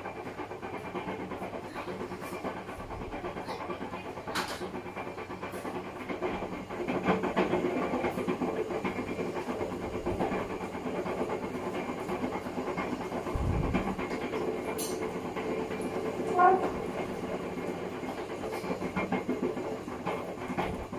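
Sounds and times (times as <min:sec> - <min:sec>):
washing machine hum: 0:00.0 - 0:20.9.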